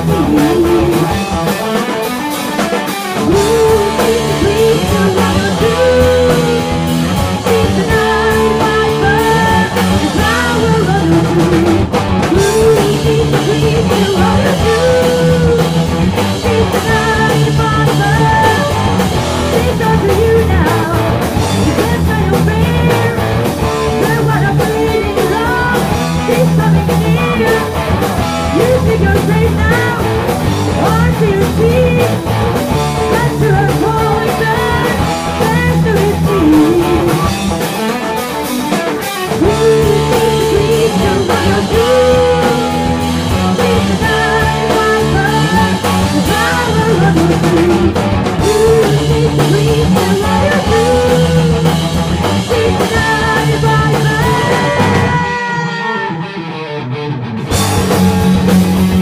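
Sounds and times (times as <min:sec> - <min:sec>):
rock music with electric guitars: 0:00.0 - 0:59.0.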